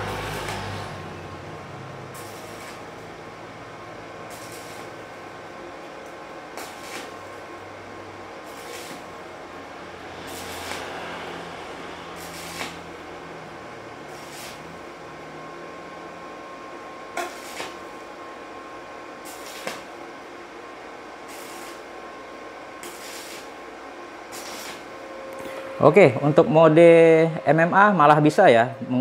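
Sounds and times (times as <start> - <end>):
welding arc crackling and hissing: 0.0 - 15.3, 17.1 - 18.2, 19.1 - 20.3, 21.0 - 27.3
welder humming: 0.0 - 29.0.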